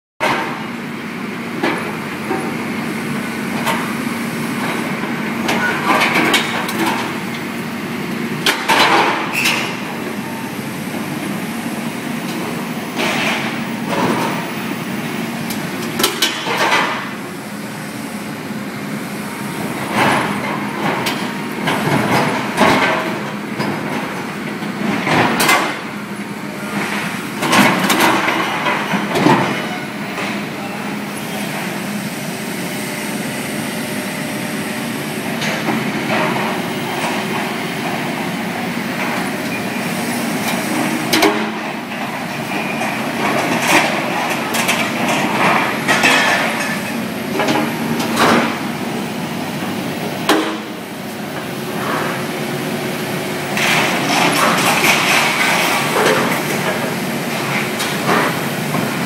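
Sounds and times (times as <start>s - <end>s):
excavator diesel engine running: 0.2s - 59.0s.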